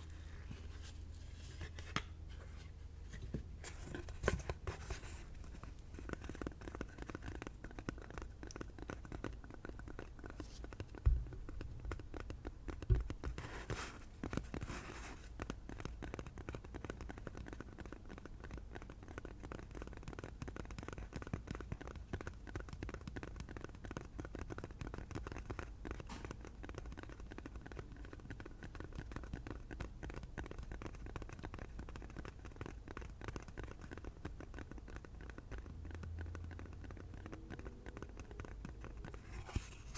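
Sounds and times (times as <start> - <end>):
finger tapping and scratching: 0.0 - 39.9.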